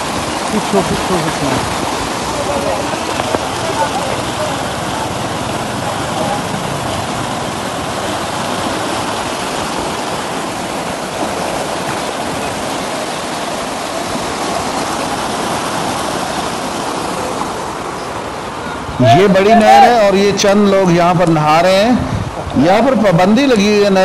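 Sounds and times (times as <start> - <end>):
water rushing through sluice: 0.0 - 24.0.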